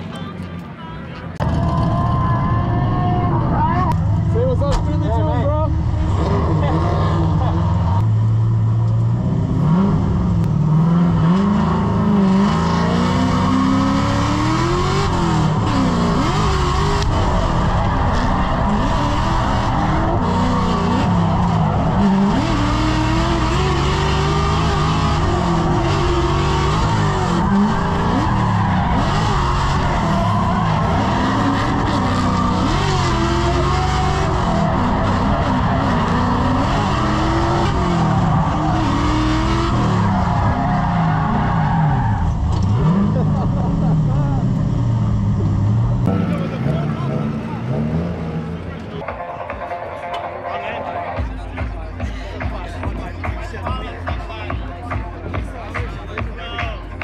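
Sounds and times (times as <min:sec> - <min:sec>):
car engine revving: 0:01.4 - 0:49.0.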